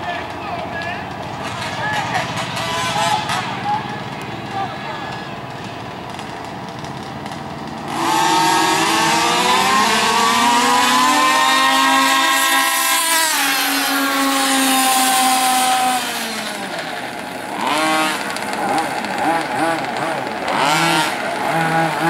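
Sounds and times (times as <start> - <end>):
rc car engines whining: 0.0 - 22.0.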